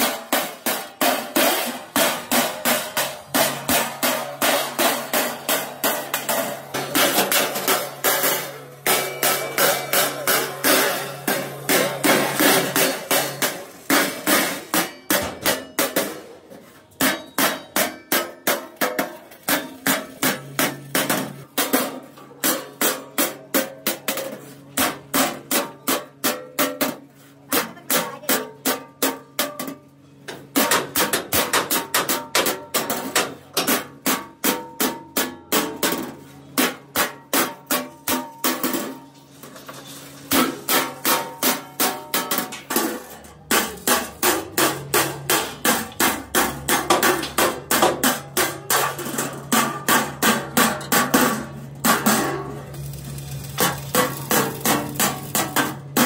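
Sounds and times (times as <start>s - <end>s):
hammer beating on steel: 0.0s - 39.1s, 40.3s - 52.6s.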